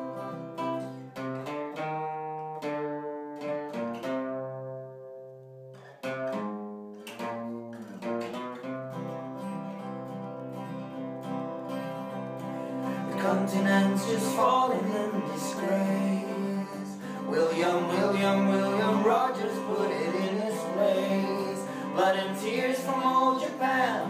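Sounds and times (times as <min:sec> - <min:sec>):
acoustic guitars strumming: 0:00.0 - 0:24.0.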